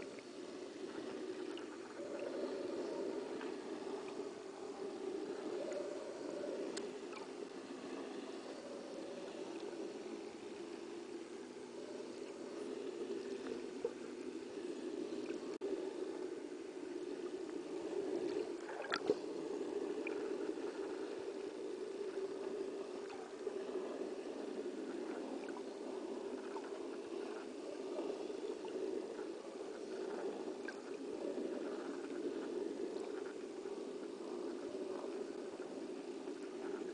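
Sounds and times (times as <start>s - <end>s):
faint ticks: 0.0s - 36.9s
muffled underwater rushing: 0.0s - 36.9s.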